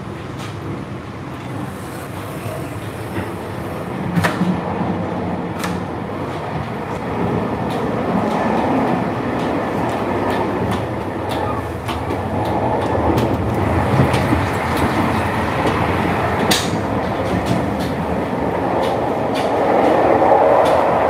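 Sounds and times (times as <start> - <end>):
train rumbling and rattling: 0.0 - 21.0
wheels clicking on track: 0.0 - 21.0.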